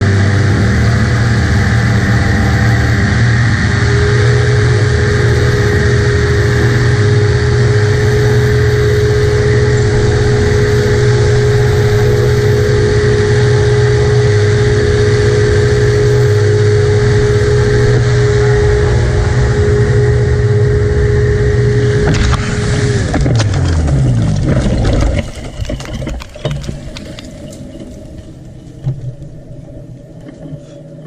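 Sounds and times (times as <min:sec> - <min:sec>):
paramotor engine and propeller: 0:00.0 - 0:31.0
steady whine: 0:00.0 - 0:31.0.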